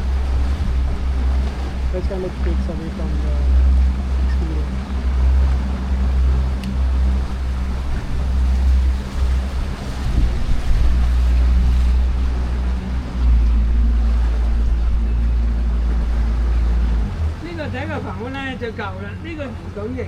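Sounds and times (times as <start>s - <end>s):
boat motor running: 0.0s - 20.0s
water rushing along hull: 0.0s - 20.0s
wind buffeting microphone: 0.0s - 20.0s.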